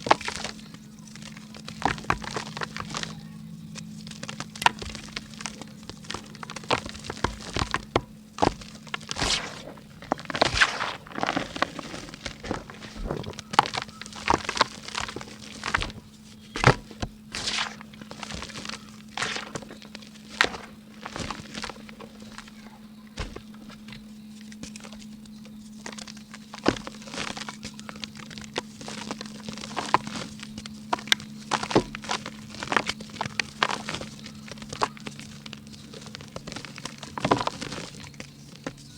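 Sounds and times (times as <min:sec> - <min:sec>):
crumbly rustling: 0:00.0 - 0:38.9
dry clay cracking: 0:00.0 - 0:38.9.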